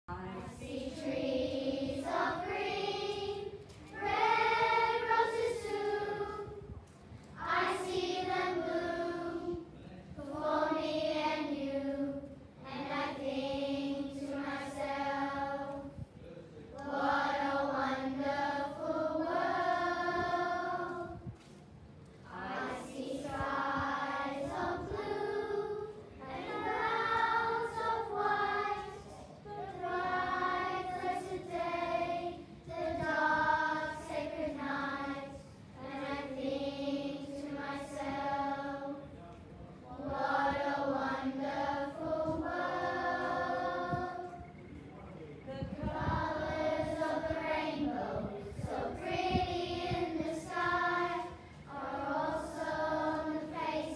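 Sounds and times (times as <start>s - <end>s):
children's choir singing: 0.5s - 6.6s, 7.4s - 16.0s, 16.8s - 21.3s, 22.2s - 39.0s, 39.9s - 44.6s, 45.7s - 53.9s.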